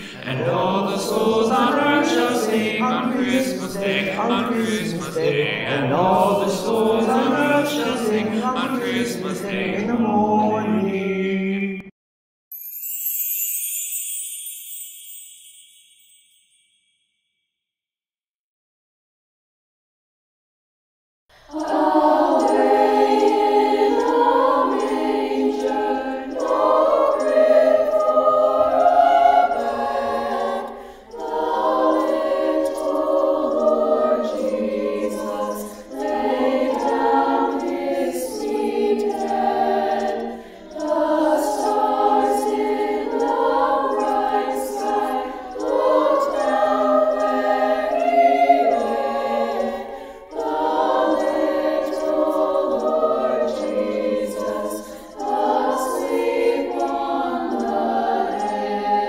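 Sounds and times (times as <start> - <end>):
choir singing: 0.0 - 11.9, 21.3 - 59.0.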